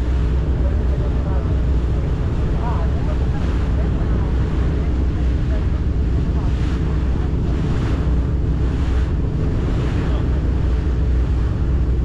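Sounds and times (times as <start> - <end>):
motor boat engine running: 0.0 - 12.0
water rushing along hull: 0.0 - 12.0
wind buffeting microphone: 0.0 - 12.0.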